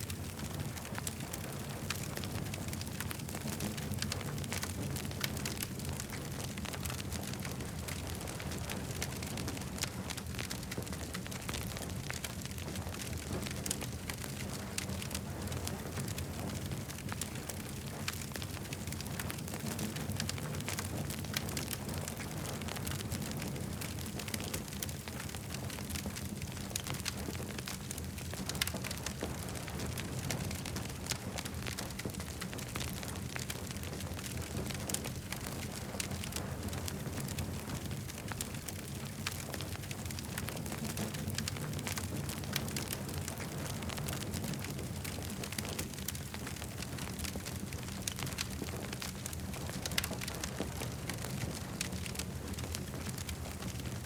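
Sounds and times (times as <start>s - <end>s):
campfire crackling and popping: 0.0s - 54.0s
low fire rumble: 0.0s - 54.0s.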